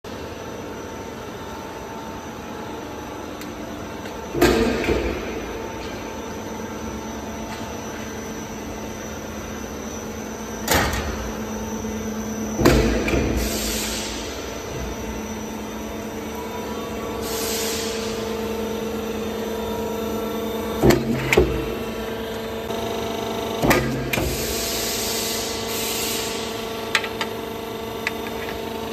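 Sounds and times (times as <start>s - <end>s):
roll forming machine humming: 0.1s - 28.9s.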